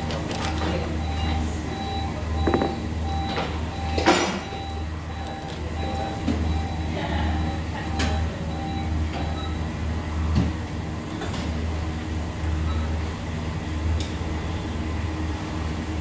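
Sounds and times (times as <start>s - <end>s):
low pulsing machine hum: 0.0s - 16.0s.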